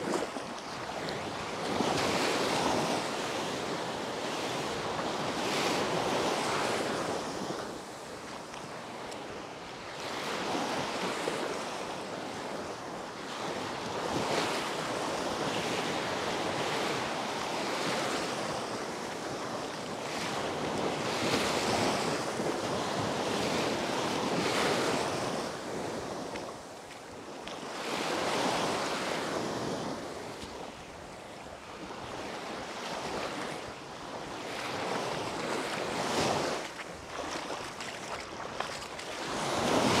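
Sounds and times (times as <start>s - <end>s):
waves breaking on sandy shore: 0.0s - 40.0s
wind on microphone: 0.0s - 40.0s.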